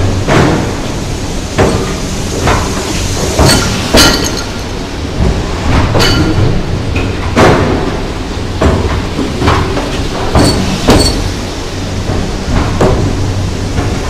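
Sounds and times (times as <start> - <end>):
train rumbling slowly: 0.0 - 14.0.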